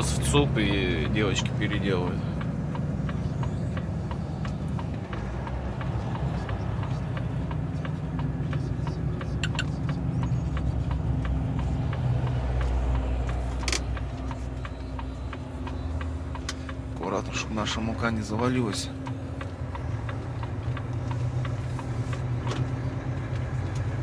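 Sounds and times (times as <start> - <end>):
diesel truck engine running: 0.0 - 24.0
steady ticking: 0.0 - 24.0.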